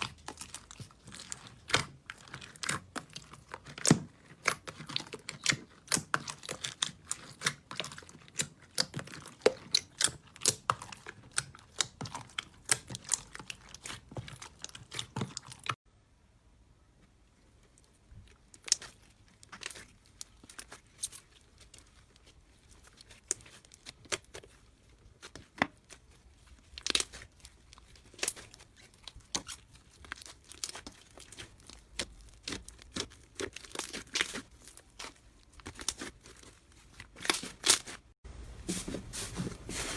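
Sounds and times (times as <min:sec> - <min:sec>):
slime crackling and popping: 0:00.0 - 0:15.8, 0:18.2 - 0:38.1.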